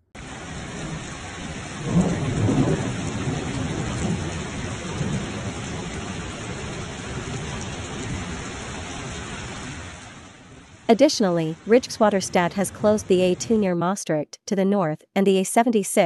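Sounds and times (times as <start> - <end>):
heavy rain on a flooded street: 0.2 - 13.5.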